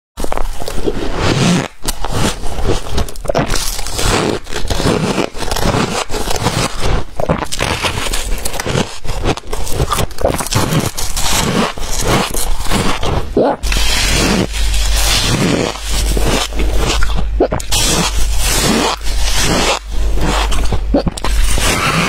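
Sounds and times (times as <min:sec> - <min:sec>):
chewing crunchy frost: 0:00.2 - 0:22.0.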